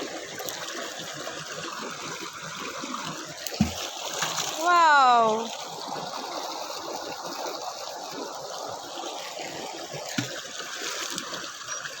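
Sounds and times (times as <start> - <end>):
stream water over stones: 0.0 - 12.0.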